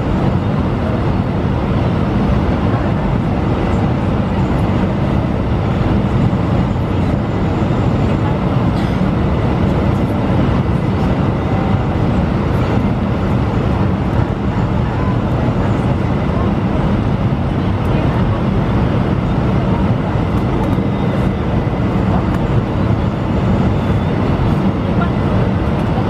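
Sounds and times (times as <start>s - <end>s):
aircraft engines droning: 0.0s - 26.0s.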